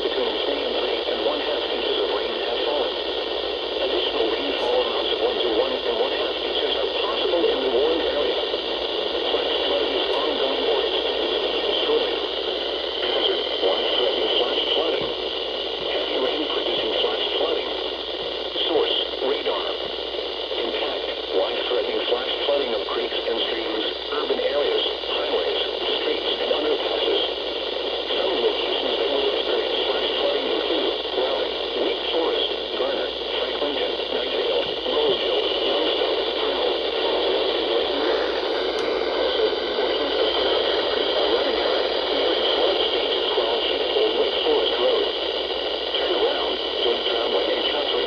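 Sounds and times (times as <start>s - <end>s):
faint broadcast voice: 0.0s - 48.0s
radio static hiss: 0.0s - 48.0s.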